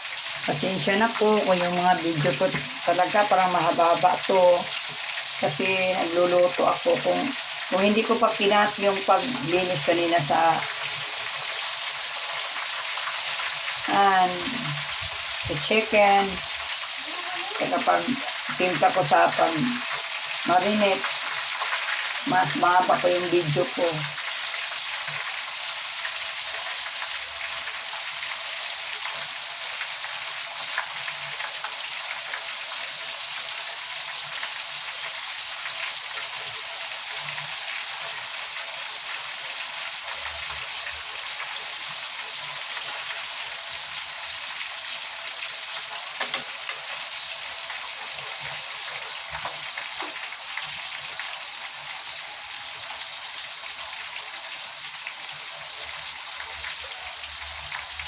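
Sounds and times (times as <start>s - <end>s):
chicken frying in hot oil: 0.0s - 58.0s.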